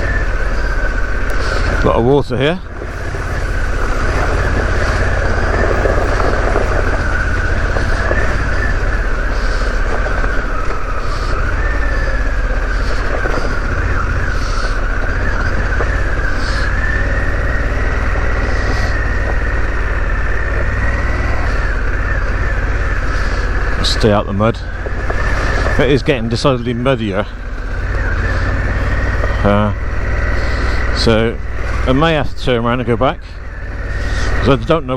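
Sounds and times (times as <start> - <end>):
high whine: 0.0 - 34.9
motorcycle engine running: 0.0 - 34.9.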